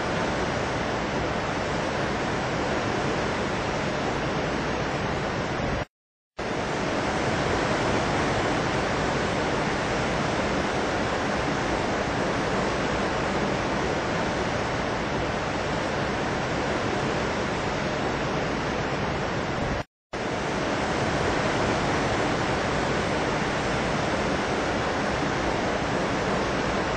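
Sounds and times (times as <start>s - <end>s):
steady rushing noise: 0.0s - 26.9s.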